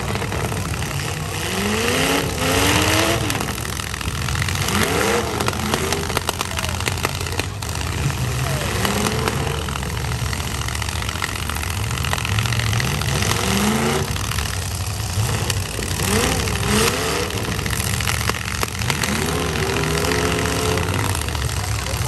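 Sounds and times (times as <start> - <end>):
truck engines revving: 0.0 - 22.0
trucks hitting each other: 0.0 - 22.0.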